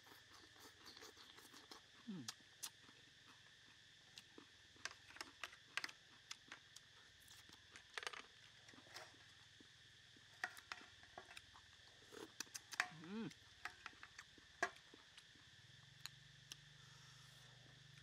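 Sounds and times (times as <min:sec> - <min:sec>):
chewing clicks and smacks: 0:00.0 - 0:16.7.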